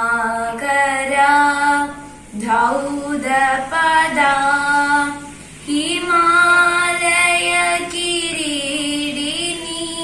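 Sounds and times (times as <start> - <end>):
girl singing unaccompanied: 0.0 - 10.0.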